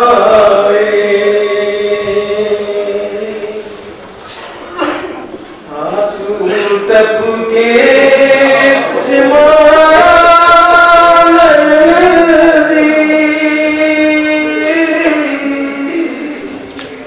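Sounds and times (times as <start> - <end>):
man chanting a lament: 0.0 - 3.8, 5.7 - 16.6.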